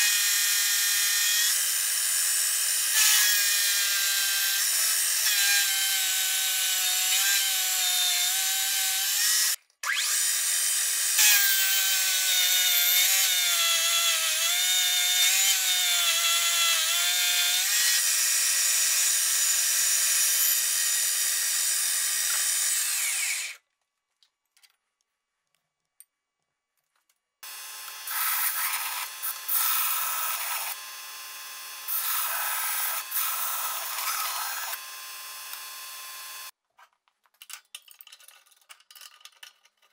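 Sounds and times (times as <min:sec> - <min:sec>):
belt grinder grinding steel: 0:00.0 - 0:23.6, 0:27.4 - 0:36.6.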